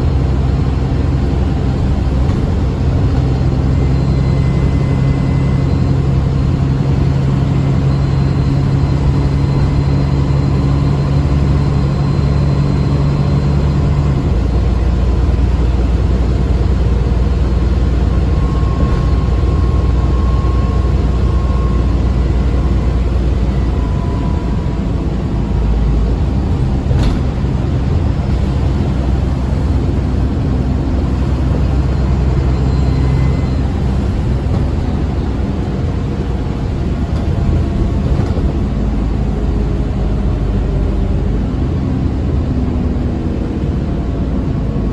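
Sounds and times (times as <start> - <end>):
bus diesel engine droning: 0.0 - 44.9
faint turbo whine: 0.0 - 44.9.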